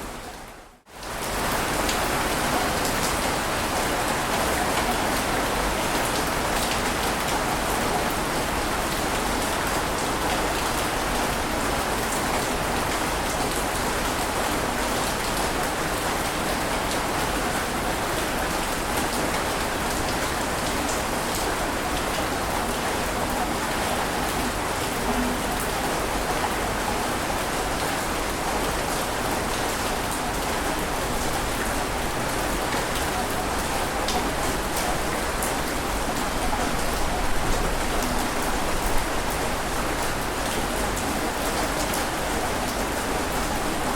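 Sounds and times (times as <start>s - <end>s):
steady water hiss with patter: 0.0s - 43.9s.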